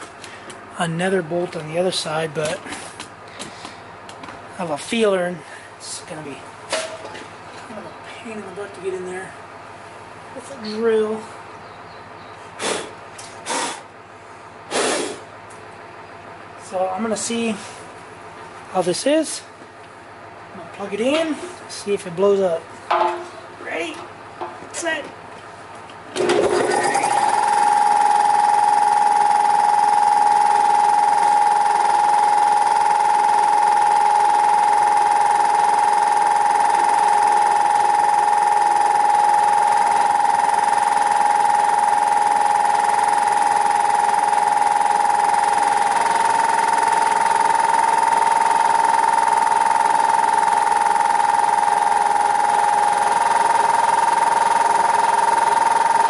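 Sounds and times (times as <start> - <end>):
loud steady whine: 0.0 - 11.4, 16.4 - 18.0, 20.5 - 56.0
air compressor running: 0.0 - 18.8, 25.4 - 56.0.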